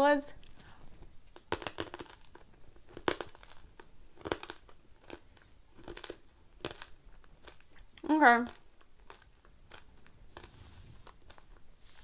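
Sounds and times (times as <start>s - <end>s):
chewing crunchy corn kernels: 0.4s - 12.0s.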